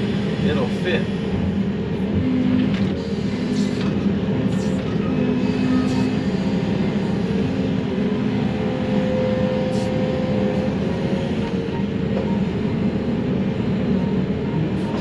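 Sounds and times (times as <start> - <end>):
diesel engine under load: 0.0 - 15.0
hydraulic whine: 0.0 - 15.0.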